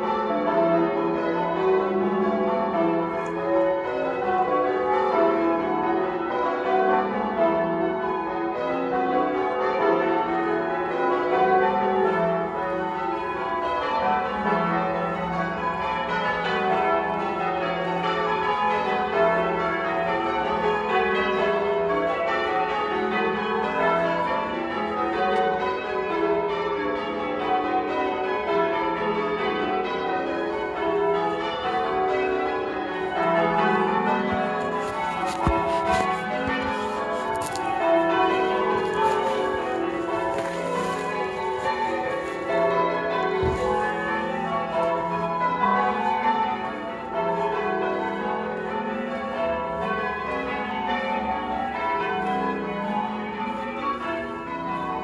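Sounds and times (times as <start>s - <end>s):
church bells change ringing: 0.0s - 55.0s.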